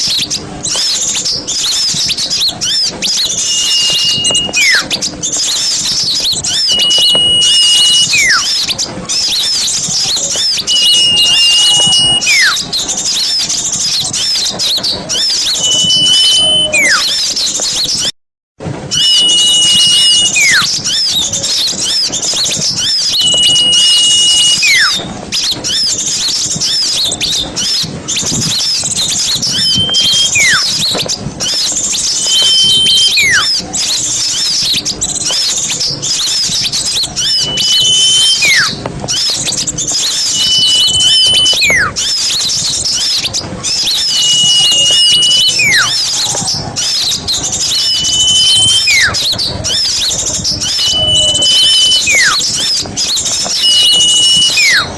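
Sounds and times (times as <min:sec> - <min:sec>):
flock of small birds twittering: 0:00.0 - 0:18.1, 0:18.9 - 0:54.9
short held whistle: 0:00.0 - 0:18.1, 0:18.9 - 0:54.9
downward sliding whistle: 0:02.6 - 0:13.4, 0:15.1 - 0:18.1, 0:18.9 - 0:25.8, 0:26.6 - 0:33.6, 0:34.3 - 0:54.9.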